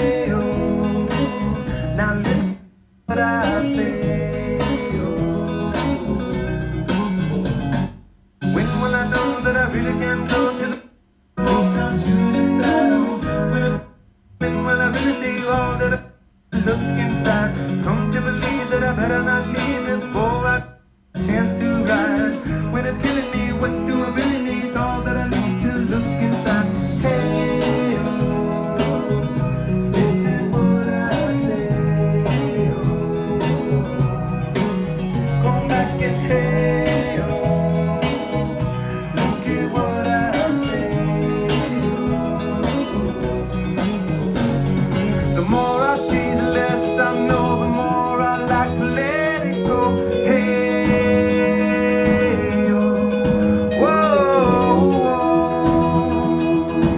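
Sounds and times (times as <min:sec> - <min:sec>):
blues song with guitar: 0:00.0 - 0:10.8, 0:11.4 - 0:56.9.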